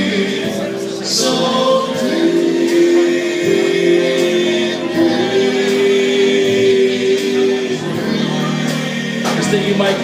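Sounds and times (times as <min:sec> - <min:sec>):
grand piano accompaniment: 0:00.0 - 0:10.0.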